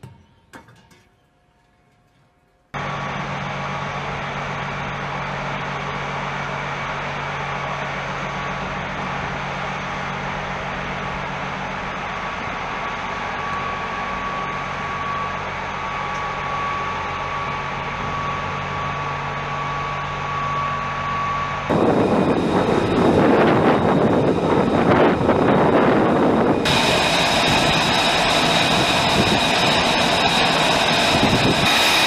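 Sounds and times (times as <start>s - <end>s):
low mechanical hum with high tone: 0.0s - 27.8s
jet engine roar: 2.8s - 32.0s.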